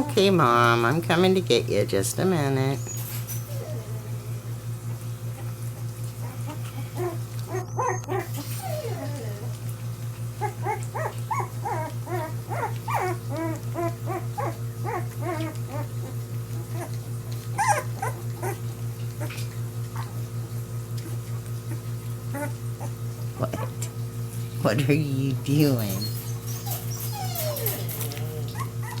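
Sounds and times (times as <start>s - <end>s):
puppies whimpering and squeaking: 0.0s - 29.0s.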